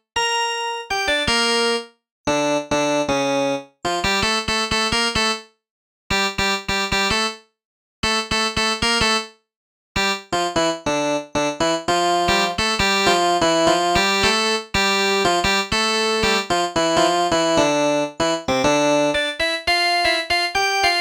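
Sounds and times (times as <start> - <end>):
electronic keyboard melody: 0.4 - 5.4, 6.1 - 7.4, 8.0 - 9.3, 10.0 - 21.0.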